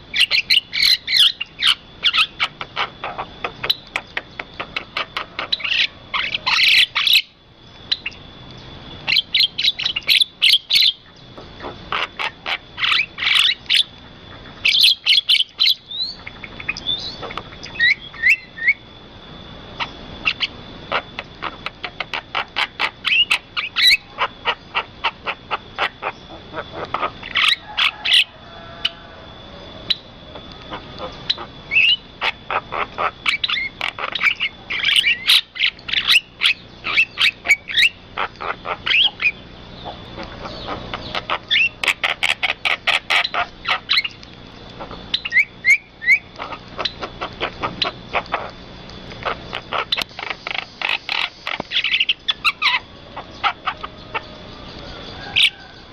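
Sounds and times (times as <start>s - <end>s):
birds chirping and whistling: 0.0s - 19.1s, 19.7s - 55.9s.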